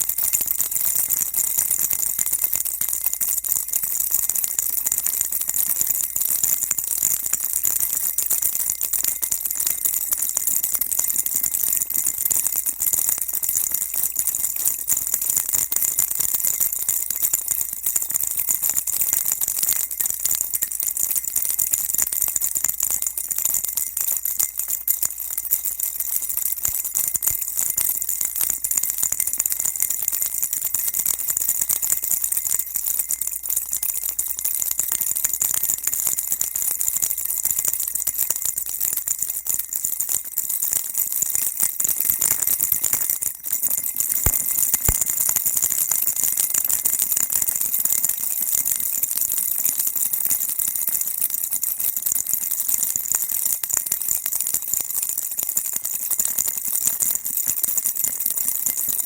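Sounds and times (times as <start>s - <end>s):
baby's rattle shaken: 0.0s - 47.8s.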